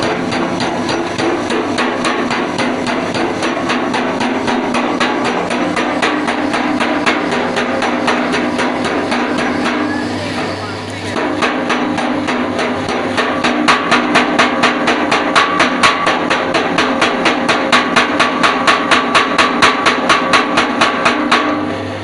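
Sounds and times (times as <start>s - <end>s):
power hammer striking metal: 0.0s - 21.8s.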